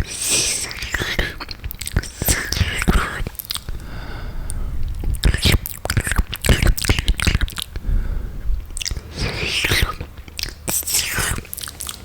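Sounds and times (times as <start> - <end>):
wet mouth clicks and smacks: 0.0 - 3.9, 4.5 - 7.8, 8.6 - 12.0
wet mouth hiss: 0.0 - 3.9, 4.5 - 7.8, 8.8 - 12.0.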